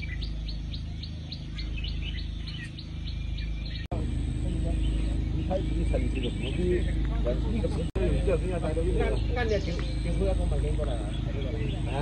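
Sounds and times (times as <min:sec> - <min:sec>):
small bird chirping: 0:00.0 - 0:12.0
steady low rumble: 0:00.0 - 0:12.0.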